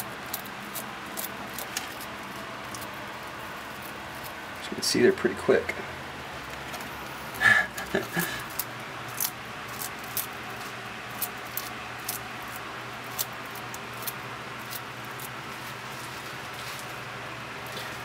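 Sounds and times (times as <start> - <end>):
lizard crunching an insect: 0.0 - 4.6, 6.8 - 17.0
steady low hum: 0.0 - 18.0.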